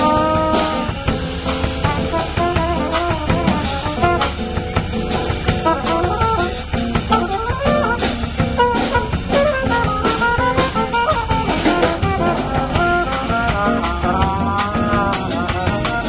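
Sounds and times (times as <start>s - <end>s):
drum kit with cymbals: 0.0s - 16.0s
strummed acoustic guitar: 0.0s - 16.0s
trumpet melody: 0.0s - 16.0s.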